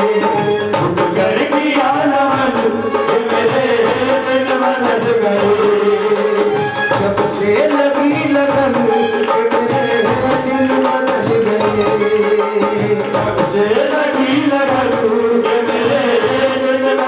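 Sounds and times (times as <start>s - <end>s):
live instrumental accompaniment: 0.0s - 17.0s
man singing into a microphone: 0.0s - 17.0s
percussion steady beat: 0.0s - 17.0s.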